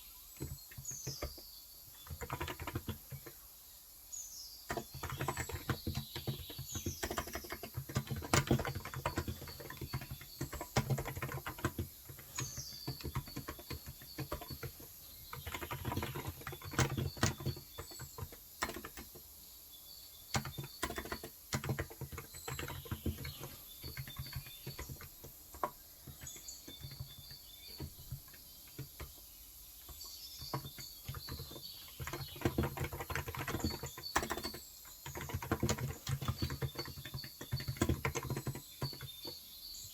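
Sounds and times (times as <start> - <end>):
faint birds chirping: 0.0 - 39.9
keyboard typing: 0.4 - 3.4, 4.7 - 19.3, 20.3 - 39.4.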